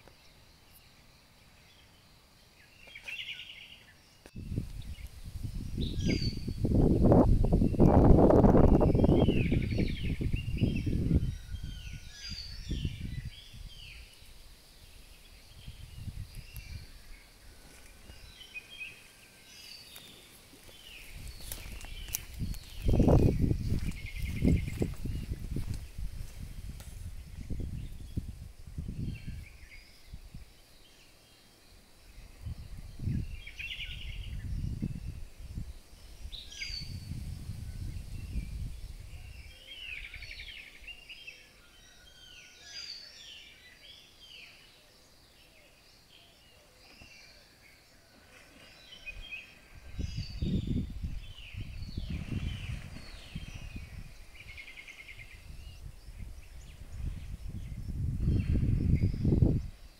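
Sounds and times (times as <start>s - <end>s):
faint steady hiss: 0.0s - 59.9s
birds chirping and singing: 1.6s - 14.2s, 14.8s - 25.8s, 28.9s - 59.9s.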